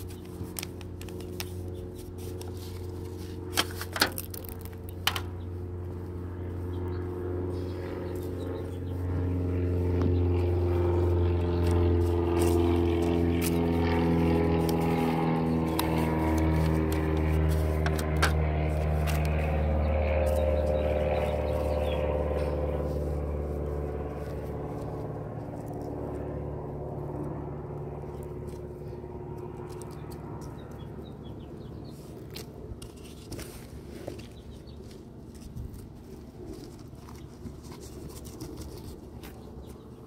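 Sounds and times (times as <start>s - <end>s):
motor engine humming: 0.0s - 40.0s.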